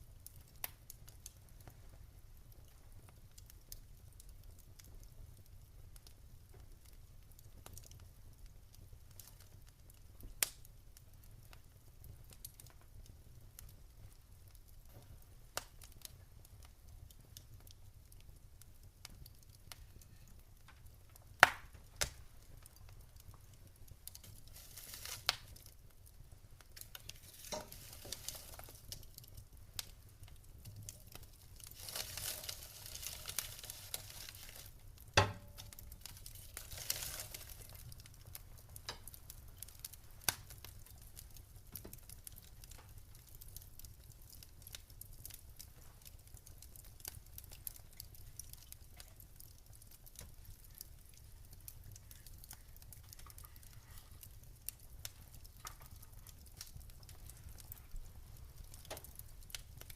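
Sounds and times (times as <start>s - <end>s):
fire soft hissing: 0.0s - 59.9s
wood fire pops and snaps: 0.0s - 59.9s.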